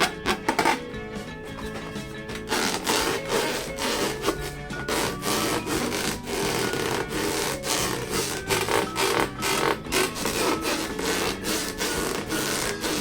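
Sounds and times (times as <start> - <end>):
rubber balloon being rubbed: 0.0 - 13.0.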